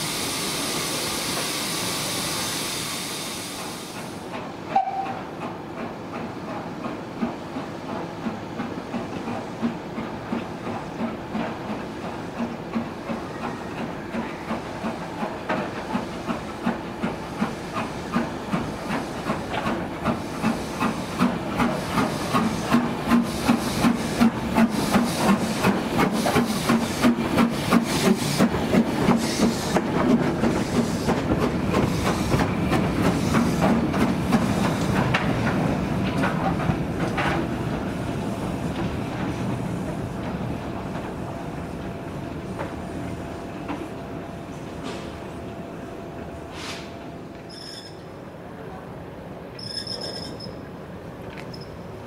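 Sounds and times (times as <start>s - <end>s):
train passing: 0.0s - 52.0s.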